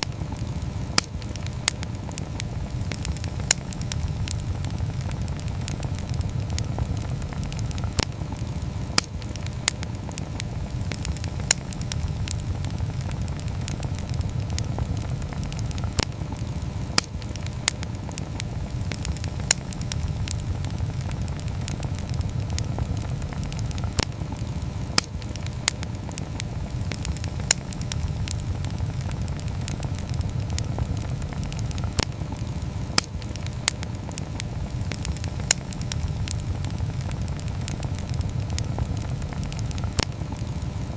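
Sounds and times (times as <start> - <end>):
burning wood crackling and popping: 0.0 - 40.9
campfire flames rumbling: 0.0 - 40.9.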